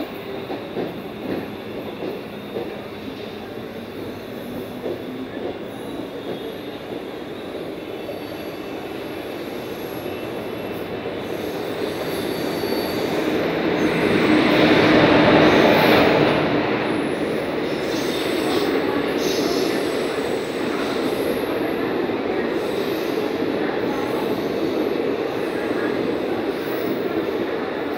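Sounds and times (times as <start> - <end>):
train passing: 0.0 - 27.9.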